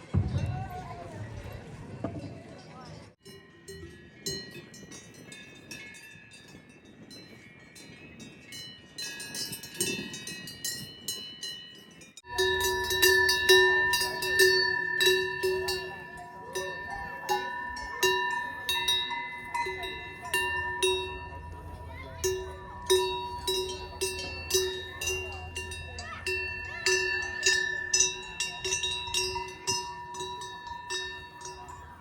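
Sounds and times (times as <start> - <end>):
cowbells clanking: 3.2 - 32.0.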